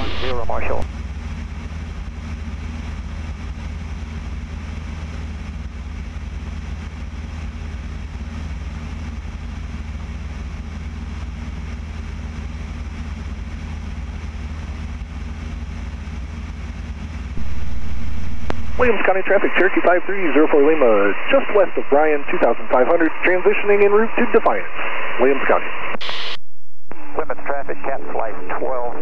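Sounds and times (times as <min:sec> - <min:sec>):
light aircraft engine droning: 0:00.0 - 0:25.9.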